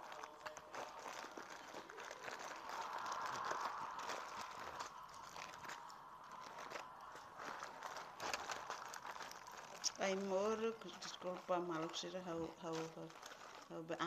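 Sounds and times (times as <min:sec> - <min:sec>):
packets rustling and crinkling: 0:00.0 - 0:14.0.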